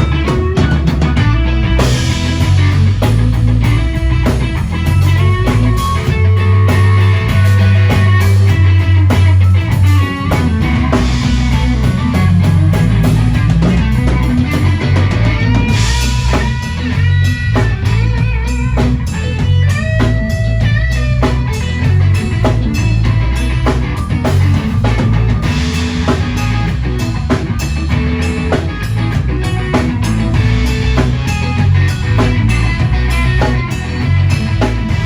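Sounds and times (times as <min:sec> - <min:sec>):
blues-rock band playing: 0:00.0 - 0:35.0
electric guitar lead: 0:00.0 - 0:35.0.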